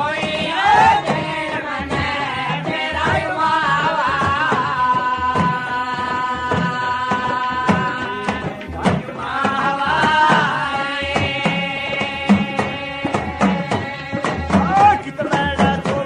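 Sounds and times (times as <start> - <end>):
hand drums struck with sticks: 0.0 - 16.0
men singing in unison: 0.0 - 16.0.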